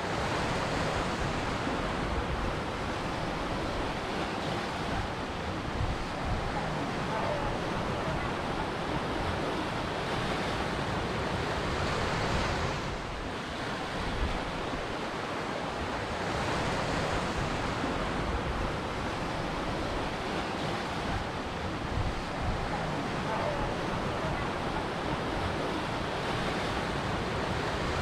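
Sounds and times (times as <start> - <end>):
waves washing onto shore: 0.0 - 28.0.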